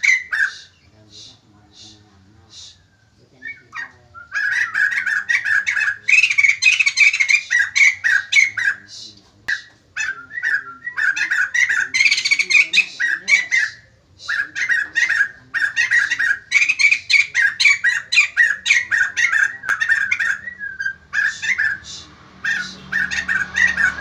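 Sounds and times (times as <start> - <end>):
bird chattering and cackling calls: 0.0 - 24.0.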